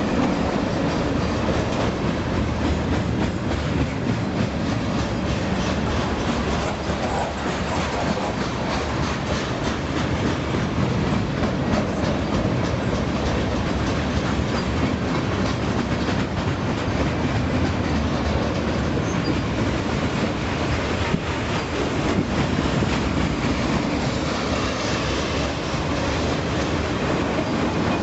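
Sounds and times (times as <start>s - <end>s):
train wheels rumbling on rail: 0.0s - 28.0s
wheels clicking over rail joints: 0.0s - 28.0s.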